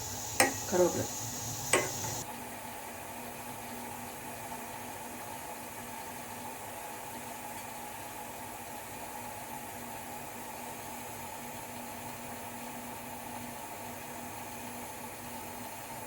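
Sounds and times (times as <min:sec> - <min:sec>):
pot heating on stove hissing: 0:00.0 - 0:16.0.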